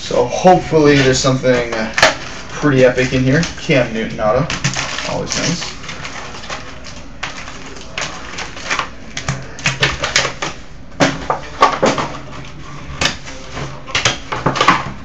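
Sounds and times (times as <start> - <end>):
foil wrappers crinkling: 0.0 - 15.0.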